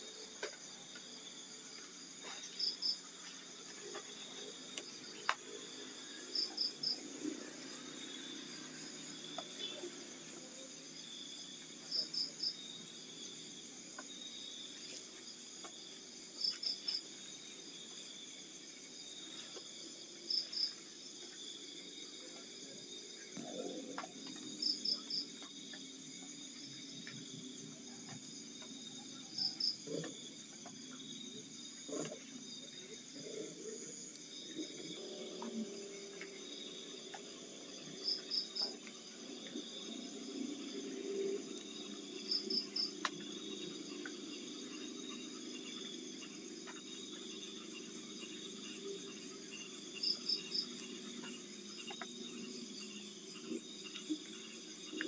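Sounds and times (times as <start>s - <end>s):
insect chirps: 0.0s - 55.0s
insects trilling: 0.0s - 55.0s.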